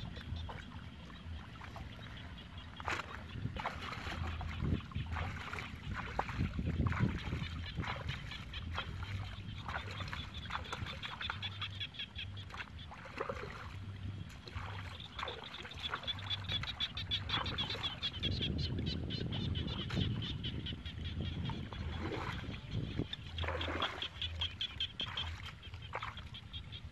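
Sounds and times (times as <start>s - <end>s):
hands splashing in muddy water: 0.1s - 18.2s, 21.1s - 26.4s.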